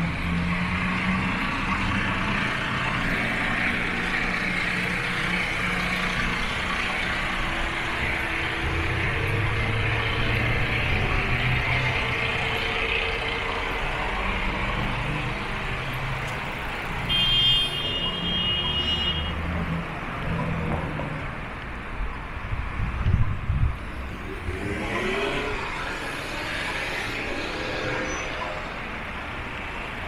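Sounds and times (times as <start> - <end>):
vehicle engines and road noise: 0.0 - 30.0.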